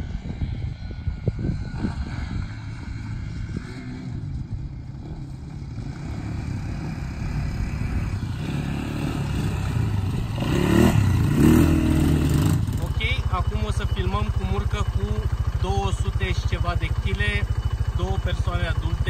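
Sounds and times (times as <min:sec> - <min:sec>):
atv engines revving: 0:00.0 - 0:19.0.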